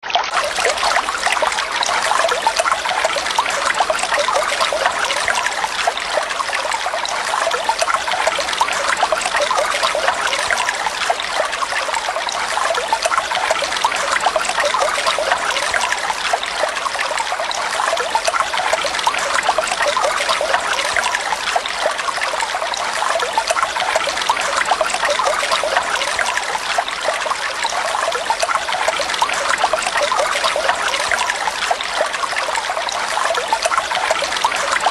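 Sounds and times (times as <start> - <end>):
flowing water: 0.0 - 34.9.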